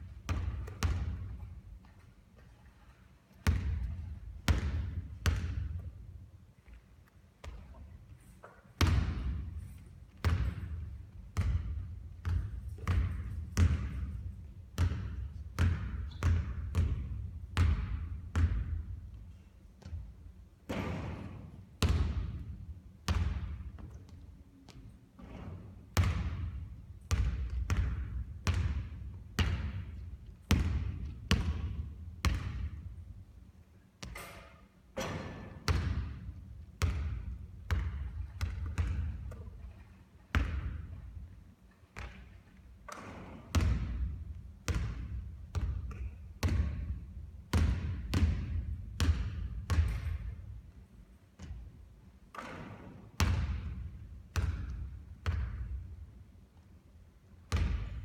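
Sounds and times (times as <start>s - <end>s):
basketball bouncing on court floor: 0.0s - 2.1s, 3.4s - 6.8s, 7.4s - 33.1s, 34.0s - 41.3s, 41.9s - 50.6s, 51.4s - 56.0s, 57.5s - 58.0s.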